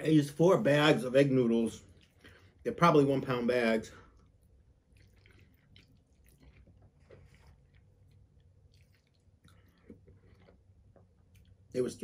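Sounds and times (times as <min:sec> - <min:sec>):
faint chewing: 0:01.6 - 0:03.3, 0:03.9 - 0:11.8.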